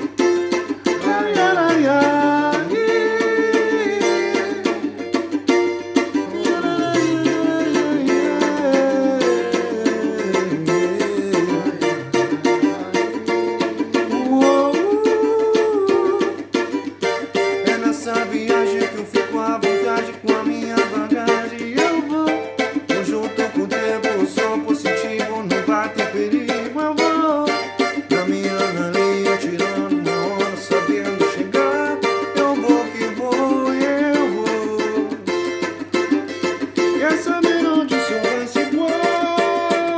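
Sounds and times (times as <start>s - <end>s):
person singing: 0.0s - 39.9s
strummed plucked string instrument: 0.0s - 39.9s.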